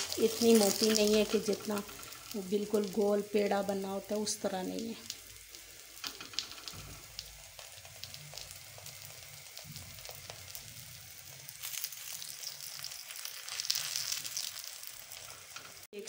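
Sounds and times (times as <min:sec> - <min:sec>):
flatbread sizzling on a griddle: 0:00.0 - 0:15.9.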